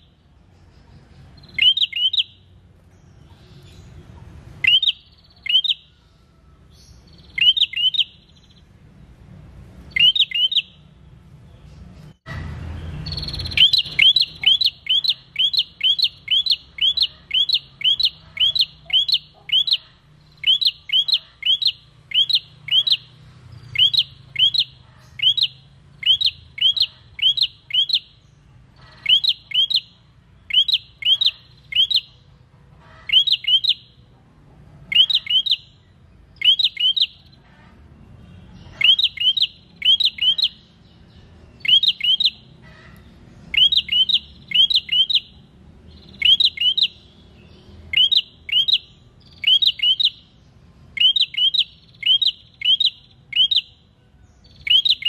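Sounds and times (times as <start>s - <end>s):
bird chirping: 0.0s - 34.1s, 34.8s - 55.0s.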